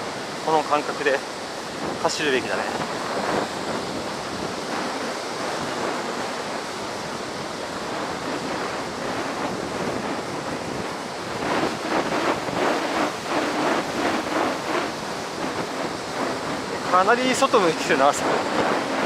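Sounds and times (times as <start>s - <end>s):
waves breaking on beach: 0.0s - 19.0s
wind on microphone: 0.0s - 19.0s.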